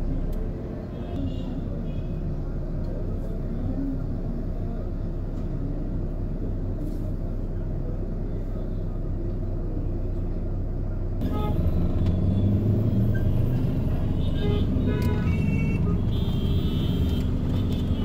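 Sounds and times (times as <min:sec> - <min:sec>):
bus engine idling: 0:00.0 - 0:18.0
road traffic: 0:00.0 - 0:18.0.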